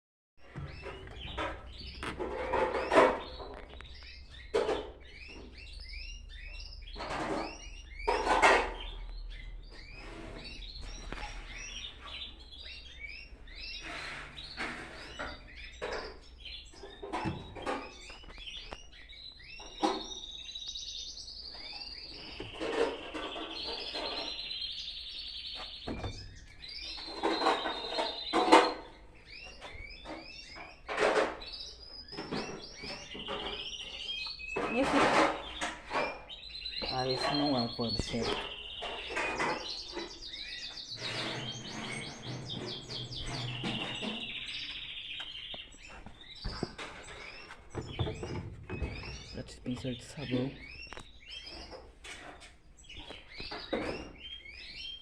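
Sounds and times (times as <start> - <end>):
bird trill: 0.4 - 51.9
birds chirping: 0.4 - 55.0.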